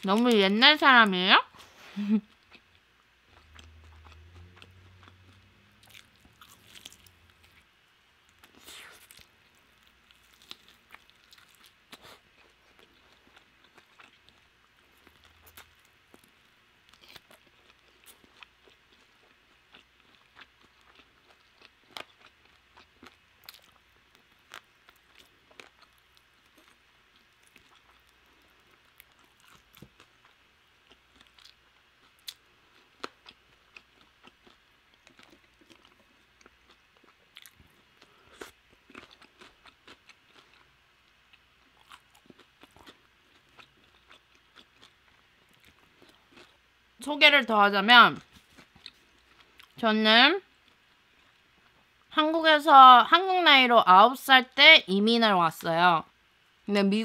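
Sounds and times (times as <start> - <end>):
chewing crisp fried food: 2.0 - 47.0, 48.2 - 49.8, 50.4 - 52.1.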